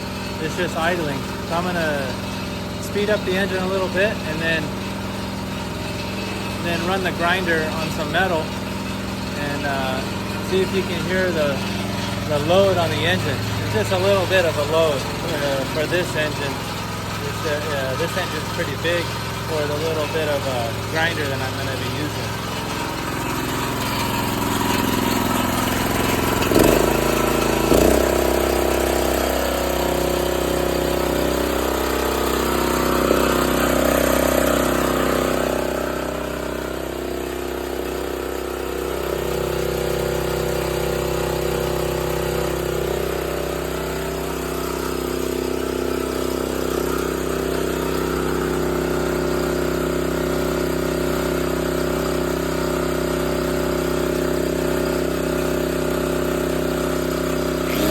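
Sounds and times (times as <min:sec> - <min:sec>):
generator engine running: 0:00.0 - 0:57.9.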